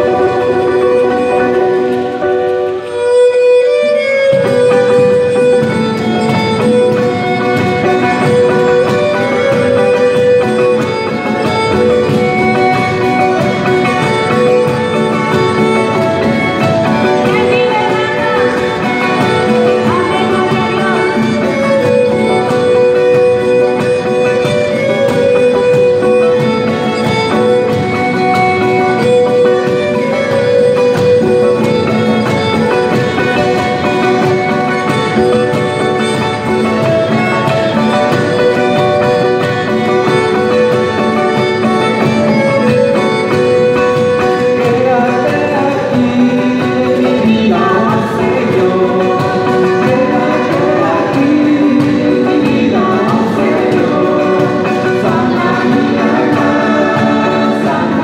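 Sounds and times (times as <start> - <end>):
acoustic guitars strummed: 0.0 - 58.0
violin melody: 0.0 - 58.0.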